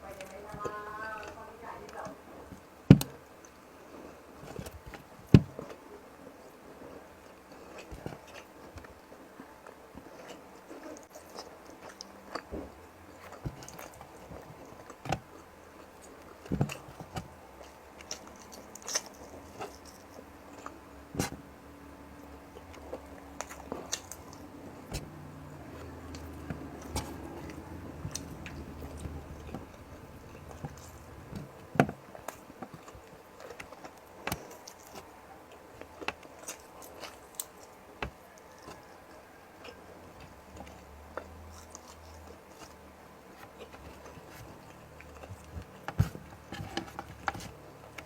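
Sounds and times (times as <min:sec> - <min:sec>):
chewing and mouth noises: 0:00.0 - 0:48.0.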